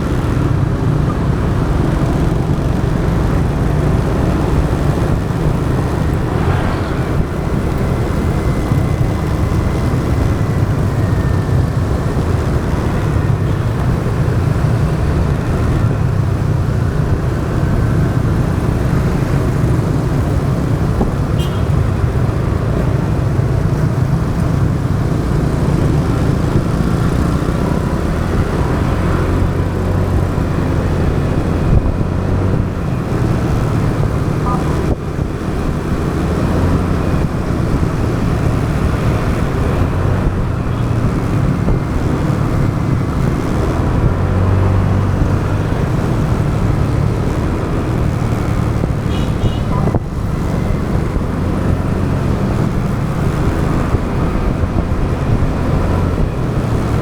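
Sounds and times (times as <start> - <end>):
motorbike engine and road noise: 0.0 - 57.0.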